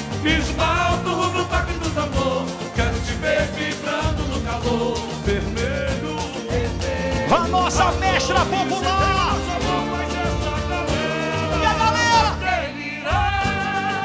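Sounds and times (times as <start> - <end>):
drums beating steady rhythm: 0.0 - 12.4, 13.1 - 14.0
people singing: 0.0 - 14.0.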